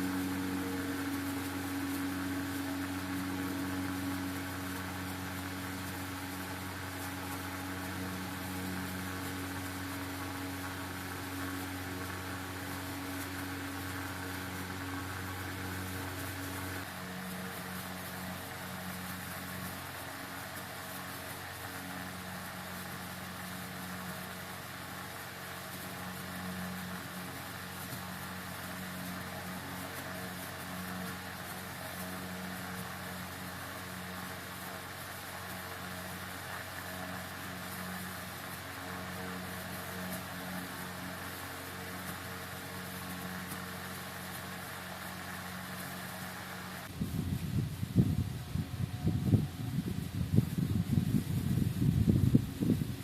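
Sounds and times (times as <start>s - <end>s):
cooling fan motor whirring: 0.0s - 53.0s.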